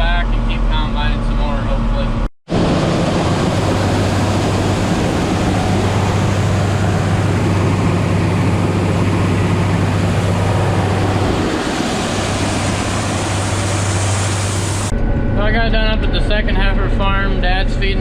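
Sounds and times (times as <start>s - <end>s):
combine harvester diesel drone: 0.0s - 18.0s.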